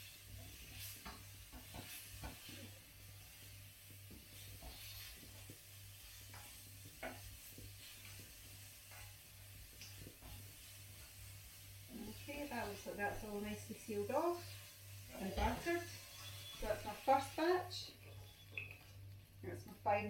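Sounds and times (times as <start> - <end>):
utensil scraping and tapping wok: 0.0 - 18.9
chicken frying in a wok: 0.0 - 20.0.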